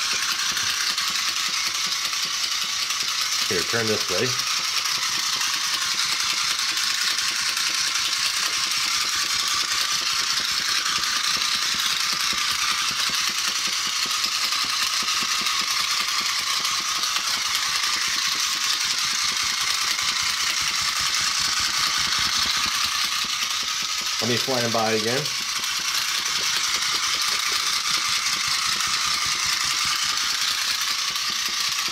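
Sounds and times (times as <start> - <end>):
toy motor and gears clattering: 0.0 - 31.9.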